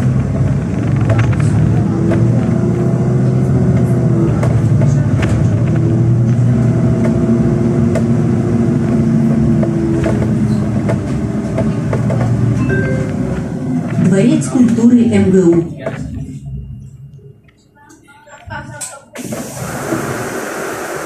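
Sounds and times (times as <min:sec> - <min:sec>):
bus engine humming: 0:00.0 - 0:21.0
road noise: 0:00.0 - 0:21.0.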